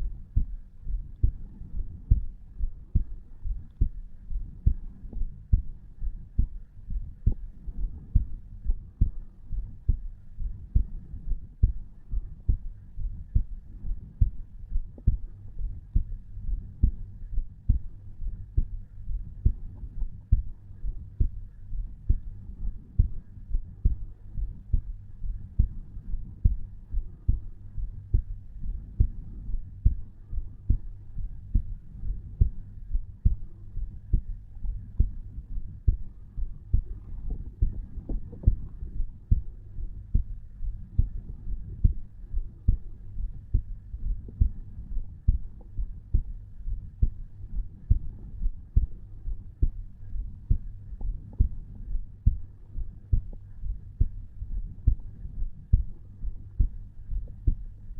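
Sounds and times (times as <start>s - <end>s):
heartbeat thumps: 0.0s - 57.9s
low hum: 0.0s - 57.9s.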